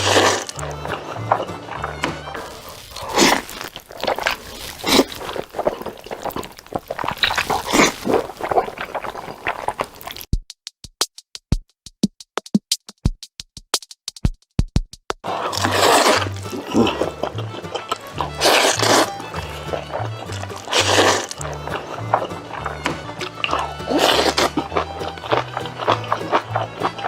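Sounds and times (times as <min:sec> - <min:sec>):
slurping and chewing noodles: 0:00.0 - 0:10.3, 0:15.2 - 0:27.0.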